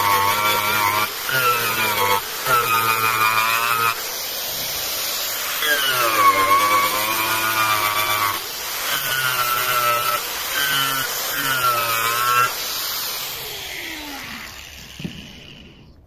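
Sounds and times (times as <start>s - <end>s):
angle grinder sanding wood: 0.0s - 16.0s.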